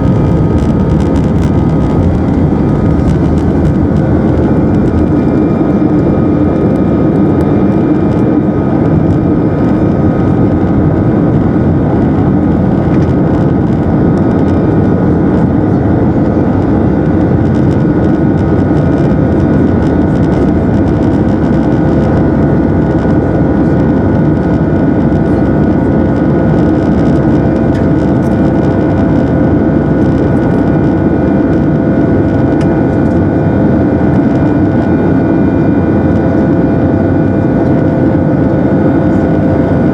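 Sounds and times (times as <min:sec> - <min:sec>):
jet engine cabin noise: 0:00.0 - 0:39.9
whining tones: 0:00.0 - 0:39.9.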